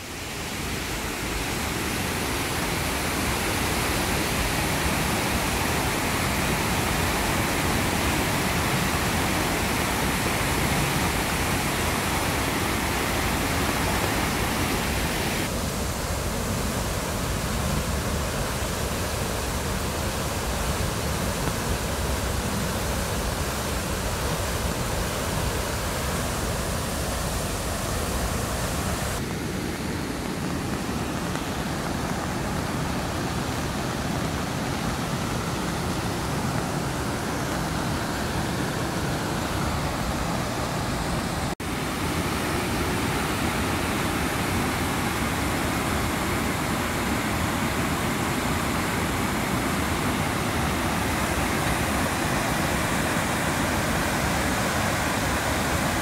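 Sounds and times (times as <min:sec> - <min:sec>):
rushing stream water: 0:00.0 - 0:56.0.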